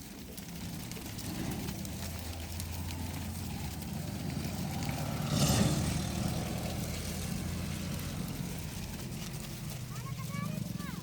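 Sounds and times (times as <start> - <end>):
engine idling: 0.2 - 11.0.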